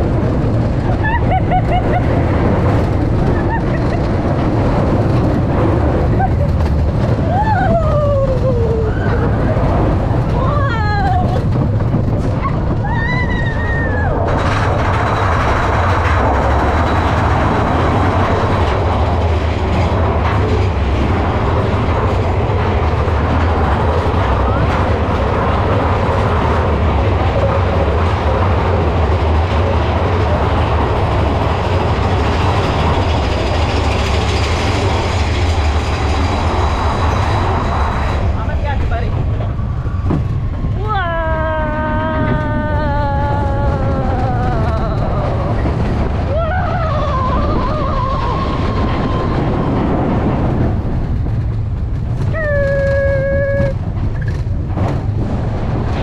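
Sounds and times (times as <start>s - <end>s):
roller coaster running on track: 0.0s - 56.0s
wind rushing: 0.0s - 56.0s.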